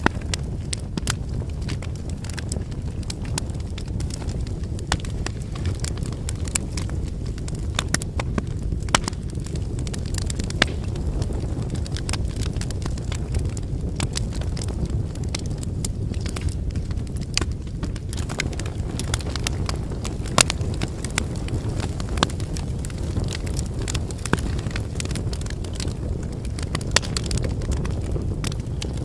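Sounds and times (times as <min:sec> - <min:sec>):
firewood crackling and popping: 0:00.0 - 0:29.0
low rumble of flames: 0:00.0 - 0:29.0.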